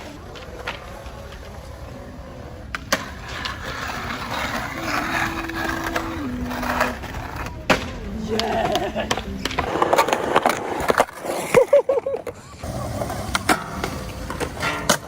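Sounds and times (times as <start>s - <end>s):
skateboard clacking: 0.0s - 15.0s
skateboard wheels rolling: 0.0s - 15.0s.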